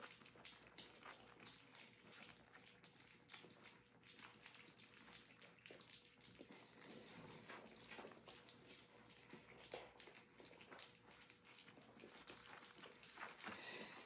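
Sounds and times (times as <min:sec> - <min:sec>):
puppies lapping wet food: 0:00.0 - 0:14.0.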